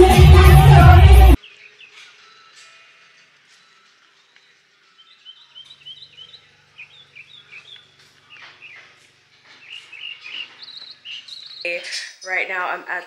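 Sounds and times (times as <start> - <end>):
birds chirping: 1.4 - 13.0.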